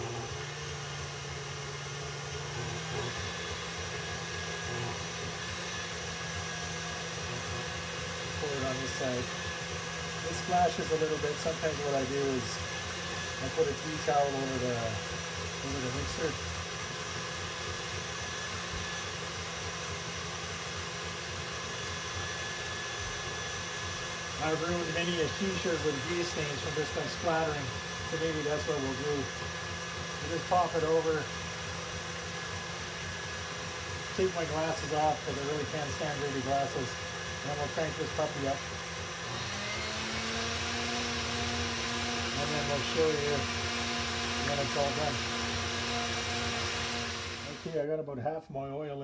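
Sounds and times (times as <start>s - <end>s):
beater churning in steel bowl: 0.0s - 47.8s
stand mixer motor humming: 0.0s - 47.8s.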